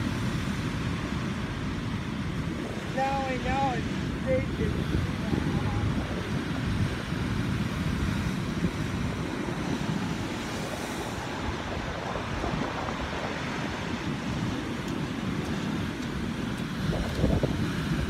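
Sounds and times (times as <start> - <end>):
ocean surf breaking on rocks: 0.0 - 18.0.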